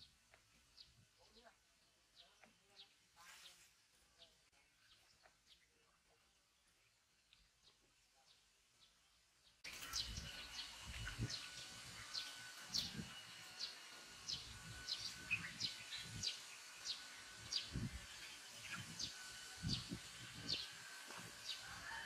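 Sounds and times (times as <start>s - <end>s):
bird chirping: 0.0s - 21.7s.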